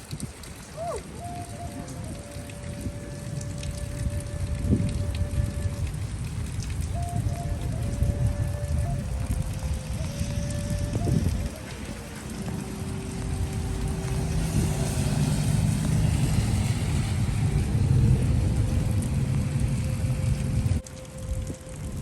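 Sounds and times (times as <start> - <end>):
heavy rain: 0.0 - 22.0
soft flute notes: 0.6 - 22.0
low rumble: 1.8 - 22.0.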